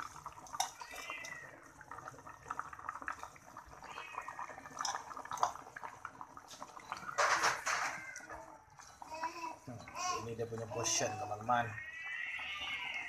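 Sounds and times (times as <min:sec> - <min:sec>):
broth bubbling at the boil: 0:00.0 - 0:13.0.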